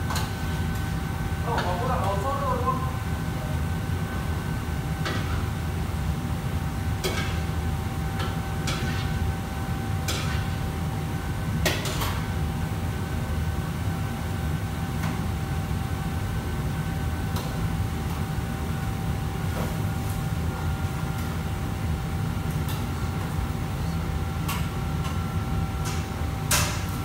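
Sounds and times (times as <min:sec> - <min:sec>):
wok range and extractor hood rumble: 0:00.0 - 0:27.0.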